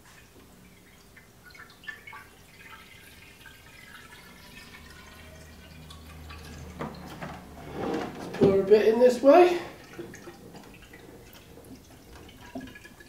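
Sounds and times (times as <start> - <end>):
water trickling into a pipe: 0.0 - 13.0.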